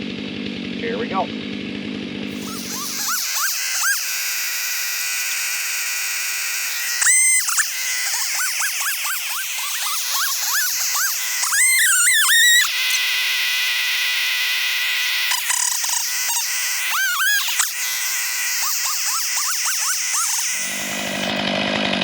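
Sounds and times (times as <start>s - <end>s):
sped-up chainsaw revving: 0.0s - 22.0s.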